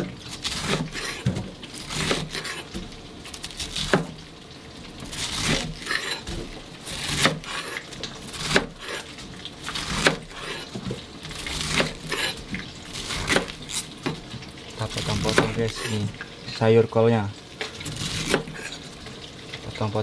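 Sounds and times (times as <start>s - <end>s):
knife crunching through cabbage: 0.0s - 2.7s, 3.3s - 4.2s, 5.0s - 16.1s, 17.6s - 19.0s.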